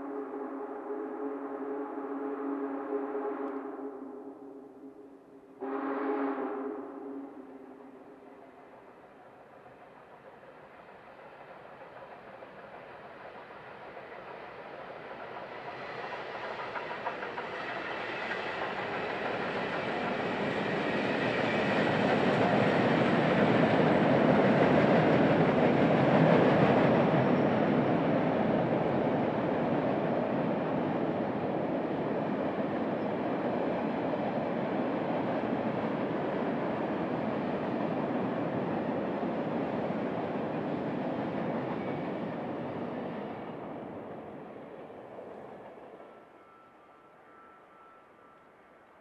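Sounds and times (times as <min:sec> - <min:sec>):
train rumbling past: 0:00.0 - 0:49.0.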